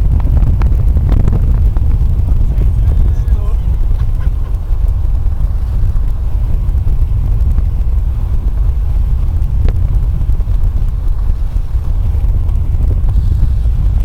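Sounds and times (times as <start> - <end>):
road and wind noise: 0.0 - 14.0.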